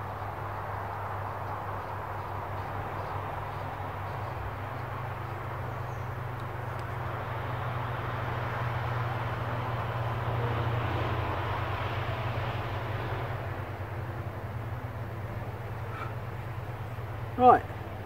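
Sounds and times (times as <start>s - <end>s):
propeller aircraft droning: 0.0s - 18.0s.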